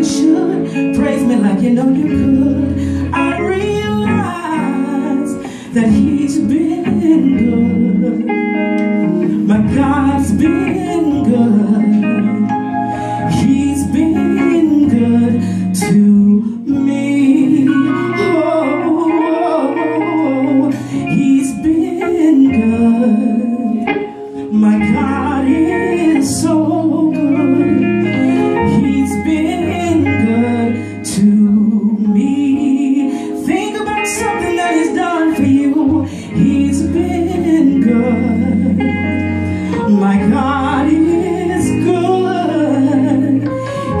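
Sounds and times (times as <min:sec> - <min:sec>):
electric guitar: 0:00.0 - 0:44.0
woman singing gospel: 0:00.0 - 0:44.0.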